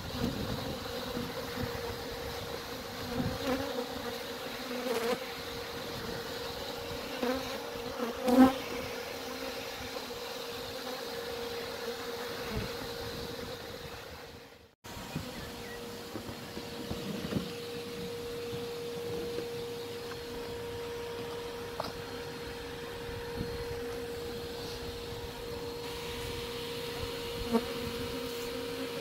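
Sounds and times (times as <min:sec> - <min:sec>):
bees buzzing: 0:00.0 - 0:29.0
bees flying past: 0:00.0 - 0:29.0.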